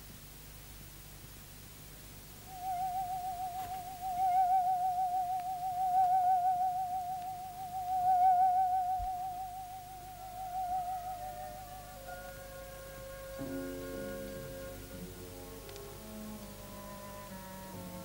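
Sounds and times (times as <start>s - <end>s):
held musical note with vibrato: 2.4s - 18.0s.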